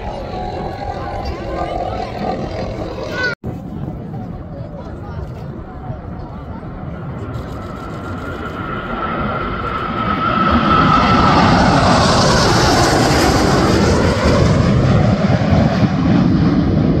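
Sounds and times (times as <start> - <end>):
fighter jets flying past: 0.0 - 17.0
high jet whine: 0.0 - 17.0.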